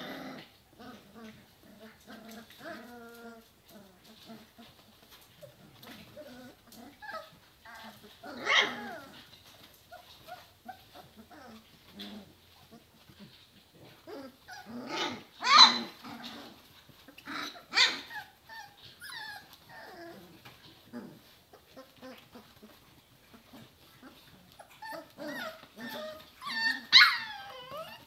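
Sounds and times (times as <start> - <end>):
puppies whining and yelping: 0.0 - 28.0.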